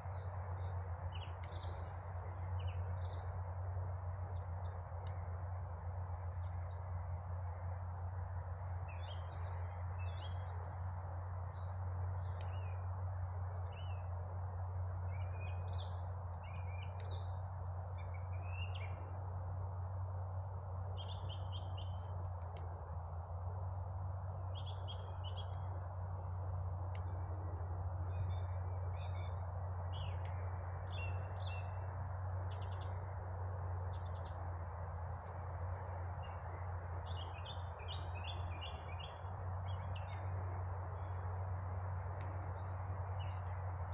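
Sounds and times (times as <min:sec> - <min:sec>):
small birds chirping: 0:00.0 - 0:07.9, 0:08.5 - 0:23.0, 0:24.2 - 0:43.9
steady low hum: 0:00.0 - 0:43.9.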